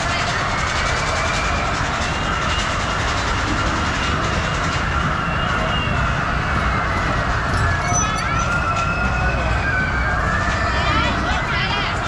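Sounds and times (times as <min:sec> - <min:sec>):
kiddie ride mechanical rumble: 0:00.0 - 0:12.0.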